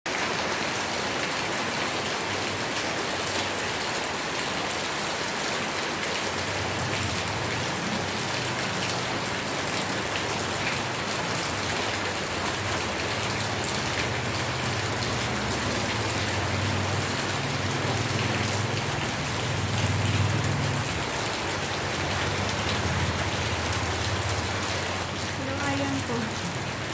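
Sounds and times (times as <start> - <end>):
rain falling: 0.1 - 26.9.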